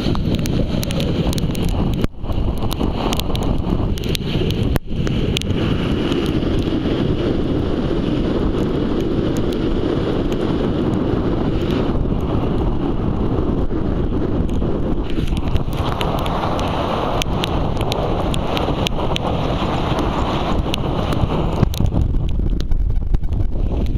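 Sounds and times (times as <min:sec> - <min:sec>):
ocean surf: 0:00.0 - 0:23.9
wind buffeting microphone: 0:00.0 - 0:23.9.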